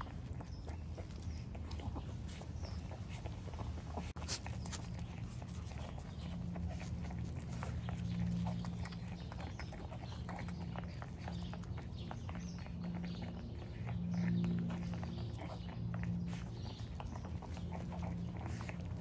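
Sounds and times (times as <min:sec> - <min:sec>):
paws scuffling on concrete: 0:00.0 - 0:19.0
puppies suckling clicks: 0:00.0 - 0:19.0
steady low hum: 0:00.0 - 0:19.0.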